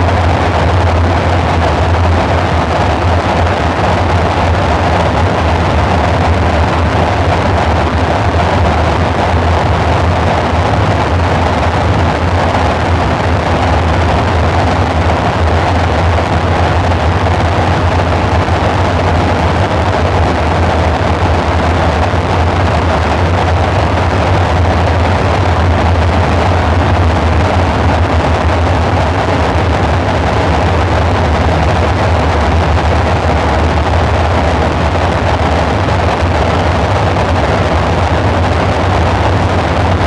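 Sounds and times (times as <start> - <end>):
deep synthesizer hum: 0.0 - 40.0.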